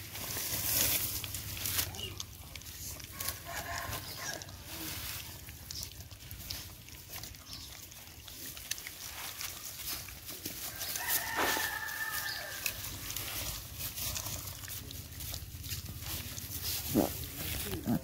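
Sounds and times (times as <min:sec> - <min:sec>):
puppies eating and lapping: 0:00.0 - 0:18.0.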